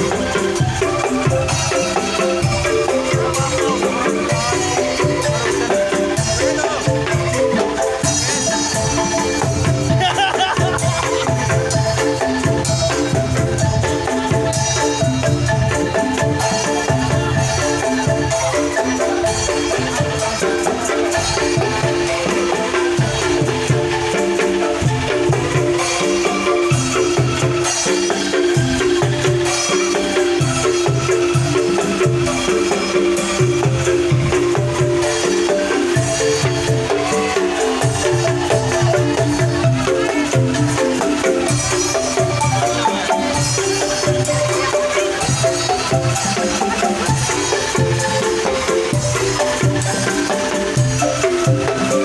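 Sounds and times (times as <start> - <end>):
bamboo rattles playing melody: 0.0 - 52.0.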